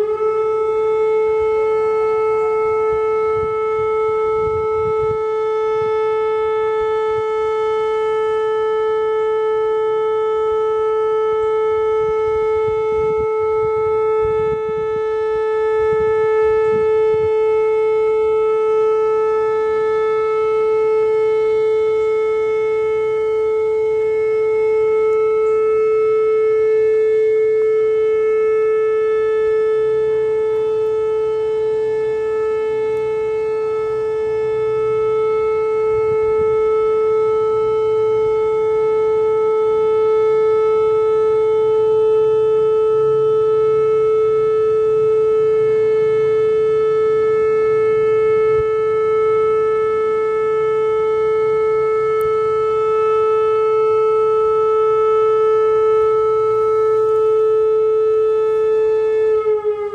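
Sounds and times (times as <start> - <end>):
steady siren tone: 0.0 - 59.9.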